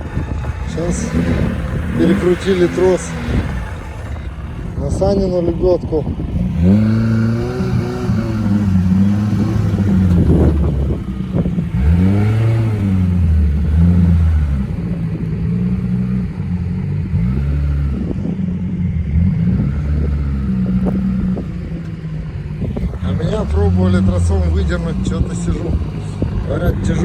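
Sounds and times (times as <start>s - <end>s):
engine revving in surges: 0.0s - 27.0s.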